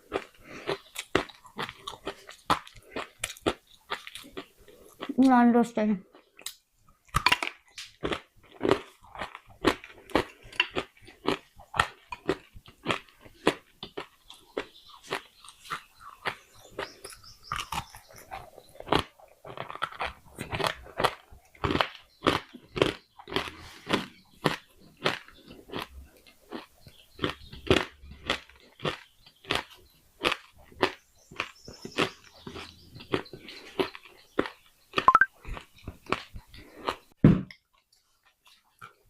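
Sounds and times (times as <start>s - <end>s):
clay pieces crunching in chewing: 0.0s - 5.4s, 6.1s - 39.0s.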